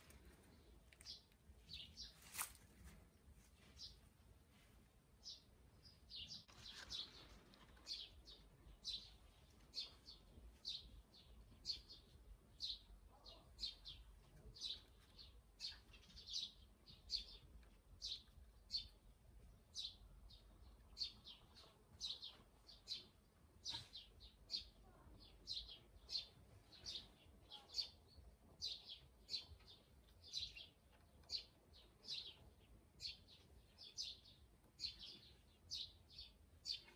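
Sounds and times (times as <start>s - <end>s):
bird chirping: 0.0s - 2.6s, 5.2s - 36.9s.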